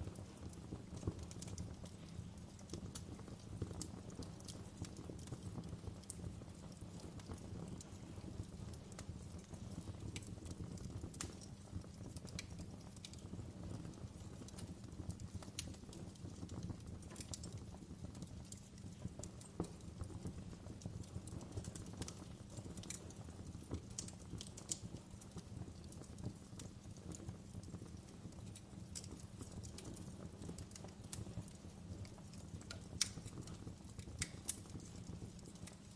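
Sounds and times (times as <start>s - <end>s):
fire crackling and popping: 0.0s - 35.9s
low rumble of flames: 0.0s - 35.9s.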